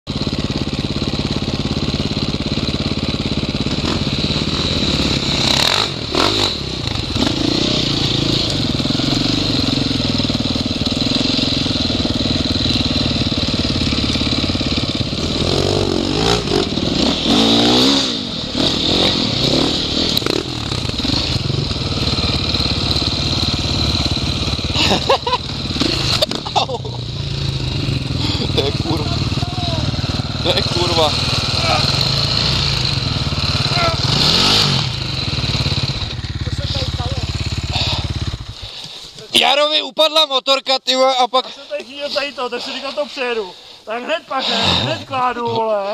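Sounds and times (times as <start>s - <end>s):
motorcycle engine revving: 0.1s - 39.6s, 42.0s - 45.9s.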